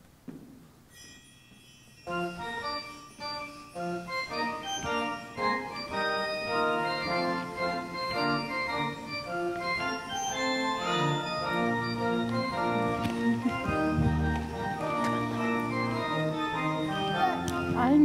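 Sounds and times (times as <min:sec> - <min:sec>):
organ playing chords and melody: 0:02.0 - 0:18.0.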